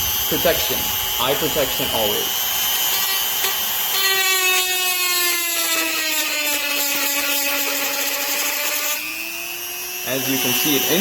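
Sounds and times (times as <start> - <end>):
bit drilling into plastic bottle: 0.0 - 11.0
rotary tool whining: 0.0 - 11.0.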